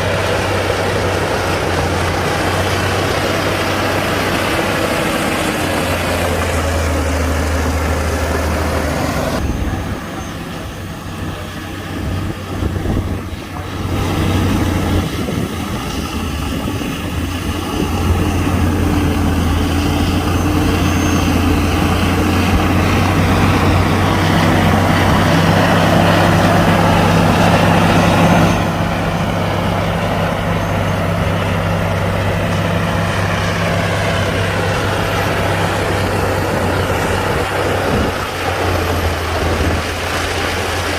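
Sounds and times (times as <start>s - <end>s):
heavy machinery diesel engines: 0.0s - 40.9s.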